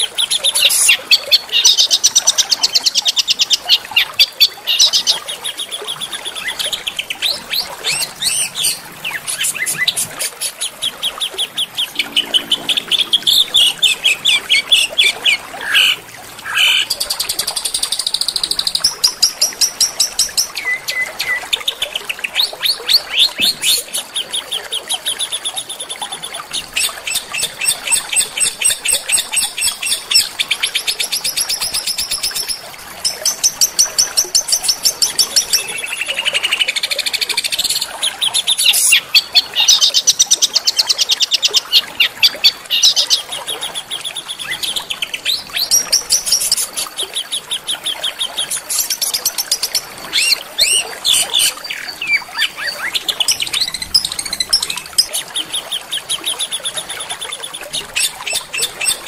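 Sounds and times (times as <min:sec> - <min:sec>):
songbirds trilling: 0:00.0 - 0:59.0.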